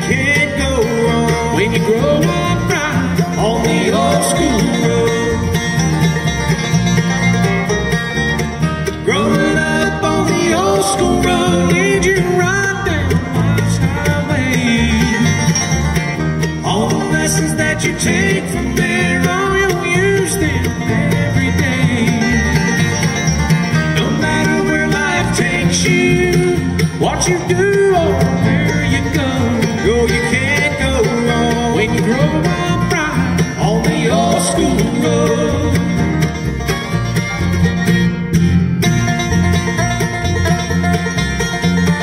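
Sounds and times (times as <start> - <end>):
bluegrass band playing live: 0.0 - 42.0.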